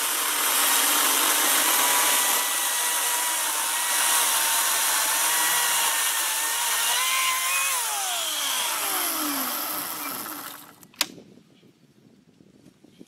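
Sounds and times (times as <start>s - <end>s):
battery chainsaw cutting log: 0.0s - 10.9s.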